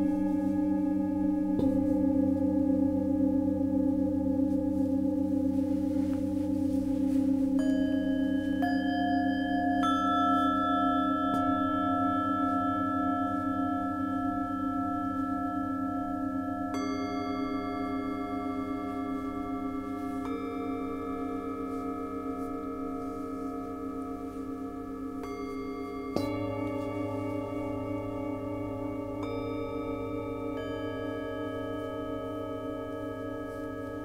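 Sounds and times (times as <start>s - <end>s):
singing bowls ringing: 0.0s - 34.0s.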